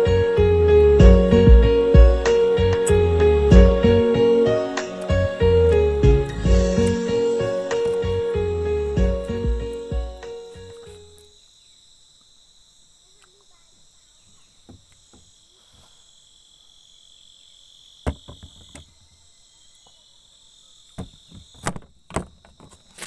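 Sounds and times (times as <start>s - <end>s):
insects calling: 0.0s - 23.0s.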